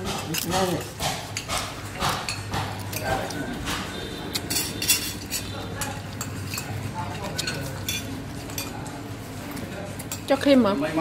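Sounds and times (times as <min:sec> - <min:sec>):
spoons clinking on plates: 0:00.1 - 0:10.6.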